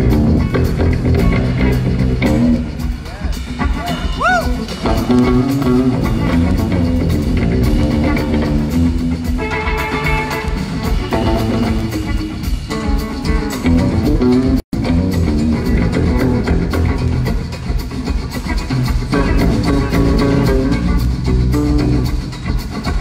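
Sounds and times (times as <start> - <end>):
electric bass guitar solo: 0.0 - 2.8, 3.8 - 17.4, 18.7 - 22.1.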